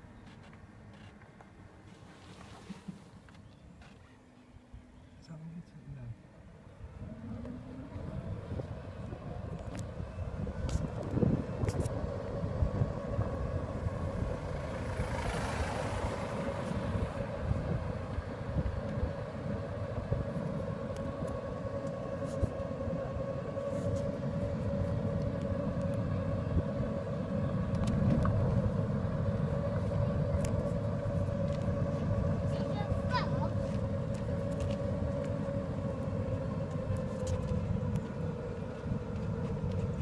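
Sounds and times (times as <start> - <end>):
road and wind rumble: 0.0 - 40.0
motor whine: 6.6 - 40.0.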